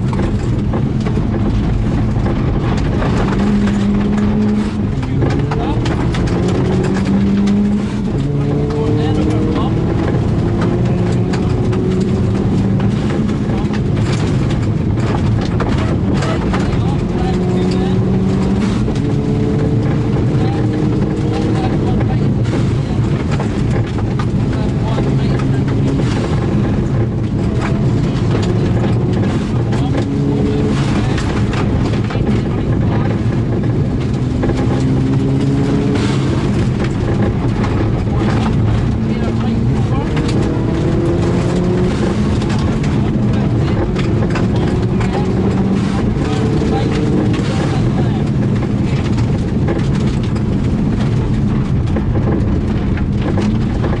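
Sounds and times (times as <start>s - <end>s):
rally car engine rumbling: 0.0s - 54.0s
stones rattling against underbody: 0.0s - 54.0s.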